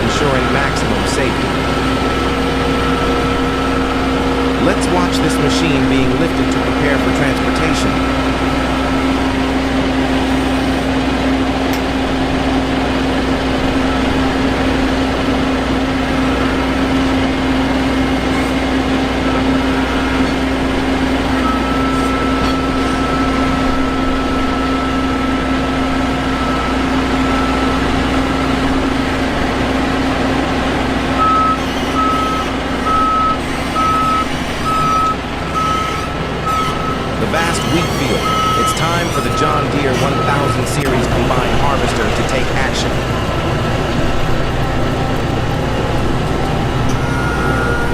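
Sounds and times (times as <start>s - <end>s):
reversing alarm beeping: 0.0s - 11.5s, 12.5s - 30.1s, 31.0s - 47.9s
diesel machinery engine running: 0.0s - 47.9s
high warning tone: 0.0s - 47.9s.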